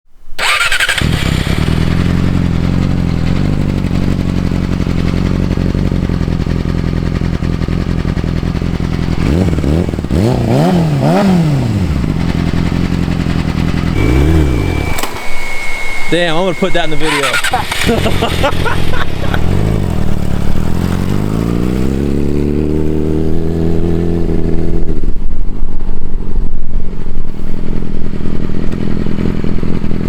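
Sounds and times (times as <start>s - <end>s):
motorcycle engine idling: 0.4s - 10.4s, 11.0s - 23.2s, 27.3s - 30.0s
motorcycle engine revving: 0.4s - 25.5s, 27.6s - 30.0s.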